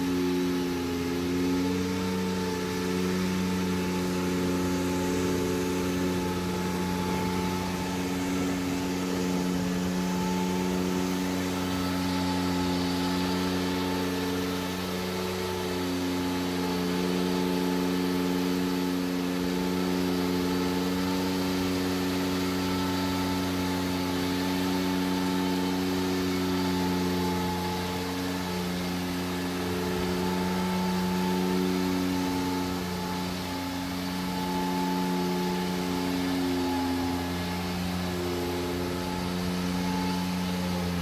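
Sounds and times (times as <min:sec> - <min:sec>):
power trowel engine running: 0:00.0 - 0:41.0.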